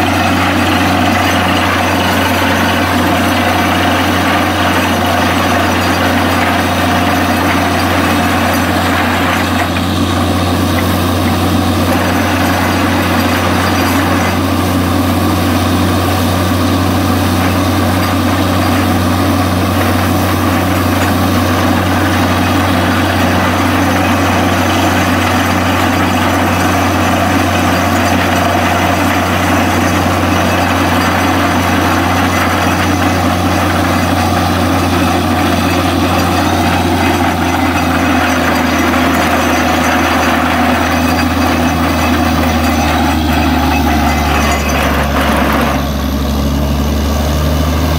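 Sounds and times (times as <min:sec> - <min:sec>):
heavy engine humming: 0:00.0 - 0:47.9.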